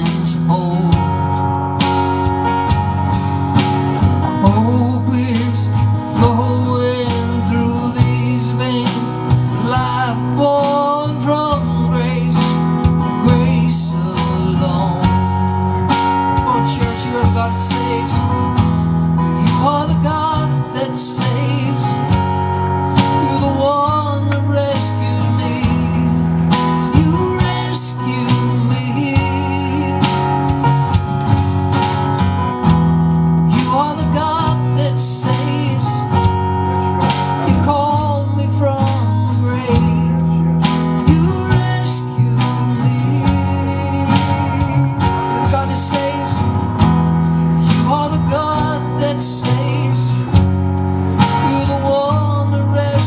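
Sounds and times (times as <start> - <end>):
acoustic guitar: 0.0 - 53.0
electric guitar: 0.0 - 53.0
low bass line: 0.0 - 53.0.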